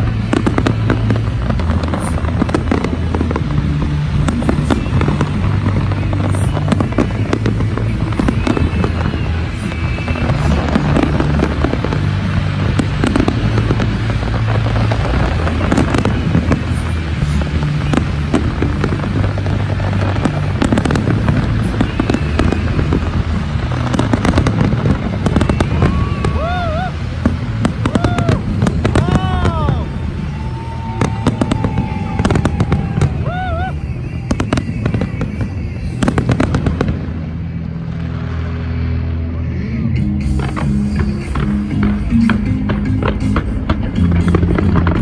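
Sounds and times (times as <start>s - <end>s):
fireworks bursting and crackling: 0.0s - 45.0s
music with bass line: 0.0s - 45.0s.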